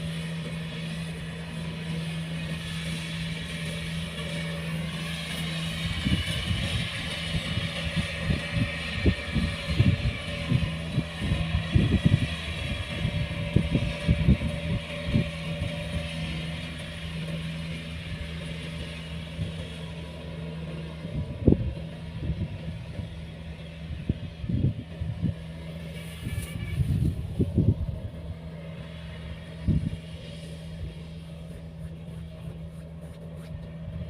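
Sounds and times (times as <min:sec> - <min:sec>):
combine harvester engine running: 0:00.0 - 0:34.0.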